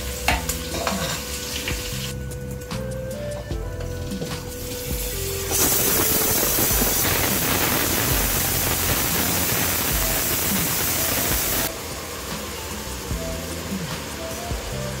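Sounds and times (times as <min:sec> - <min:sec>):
tomatoes sizzling in a pot: 0:00.0 - 0:15.0.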